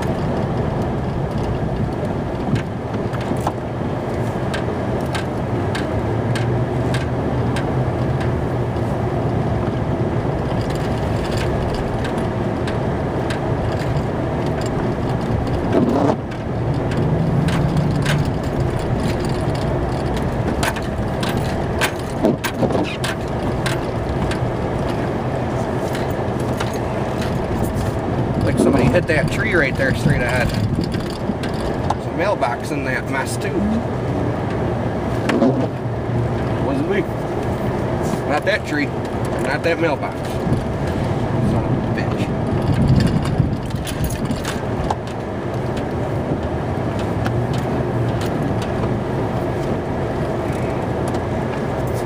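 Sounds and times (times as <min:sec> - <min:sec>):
truck engine running: 0:00.0 - 0:52.0.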